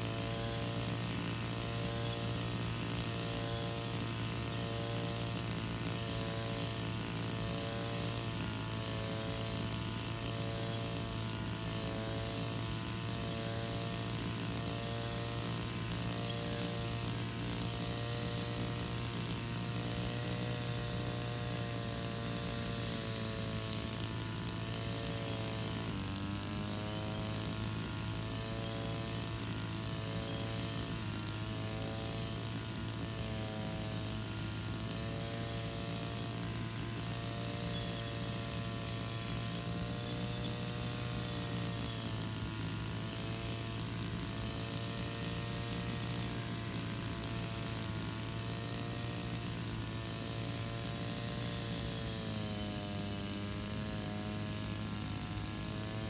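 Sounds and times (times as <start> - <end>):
brush cutter cutting grass: 0.0 - 56.0.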